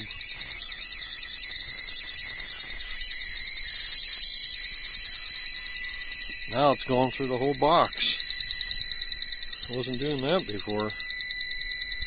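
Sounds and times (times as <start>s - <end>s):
electrical hiss and buzz: 0.0s - 12.0s
high-pitched electrical whine: 0.0s - 12.0s.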